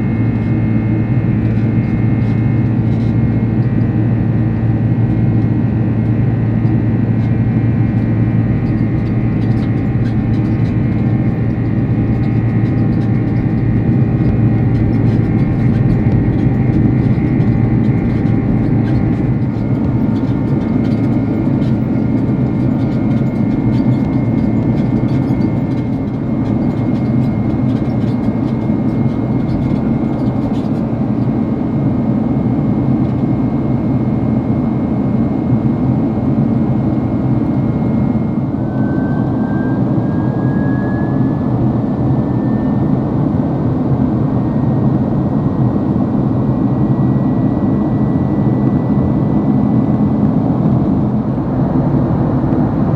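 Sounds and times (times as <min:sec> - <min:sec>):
high engine whine: 0:00.0 - 0:52.9
jet engine cabin rumble: 0:00.0 - 0:52.9.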